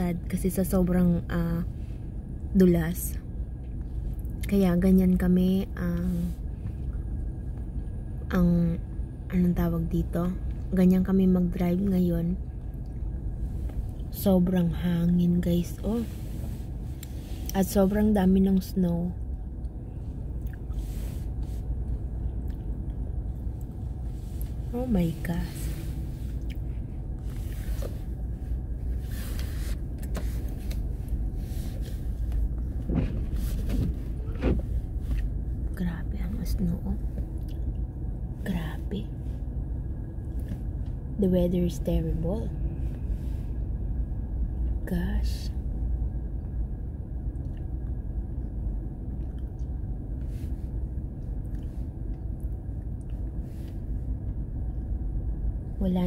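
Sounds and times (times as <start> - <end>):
car cabin rumble: 0.0 - 56.0.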